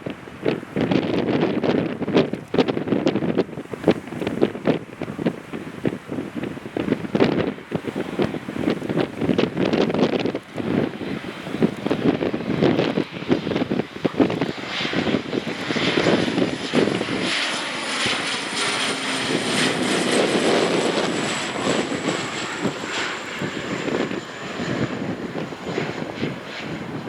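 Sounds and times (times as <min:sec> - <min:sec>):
airliner engines passing: 0:00.0 - 0:27.0
wind buffeting microphone: 0:00.0 - 0:27.0.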